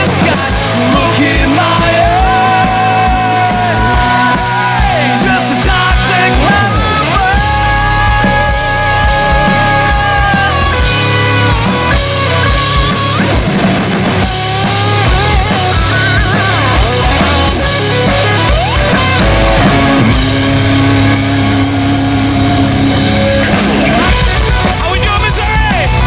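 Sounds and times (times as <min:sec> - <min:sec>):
electric guitar notes bending: 0:00.0 - 0:26.0
heavy kick drum pulses: 0:00.0 - 0:26.0
live rock band playing: 0:00.0 - 0:26.0.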